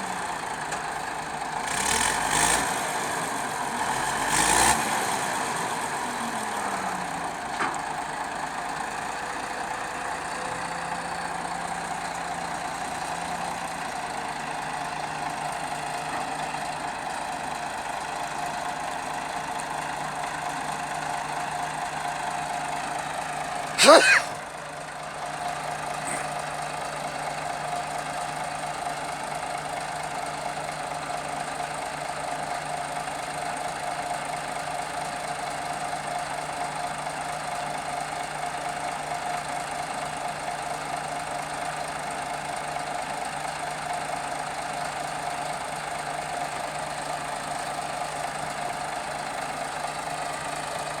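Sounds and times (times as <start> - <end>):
diesel engine running steadily: 0.0 - 51.0.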